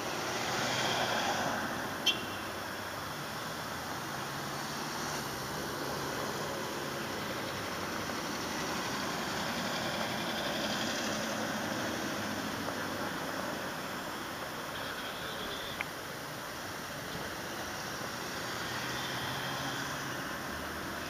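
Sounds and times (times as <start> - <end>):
car approaching: 0.0 - 21.0
vehicle engines running: 2.6 - 21.0.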